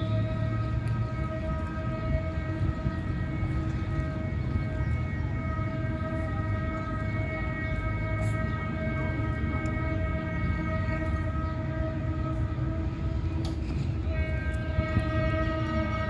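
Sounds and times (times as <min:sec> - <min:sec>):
distant locomotive horn: 0:00.0 - 0:16.0.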